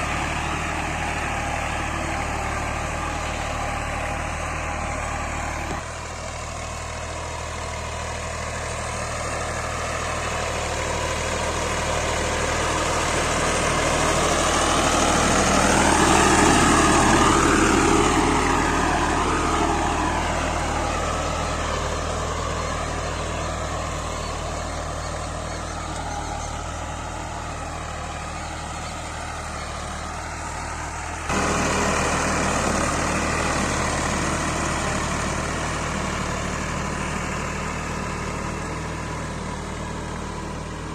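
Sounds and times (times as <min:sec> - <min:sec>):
tractor engine passing: 0:00.0 - 0:40.9.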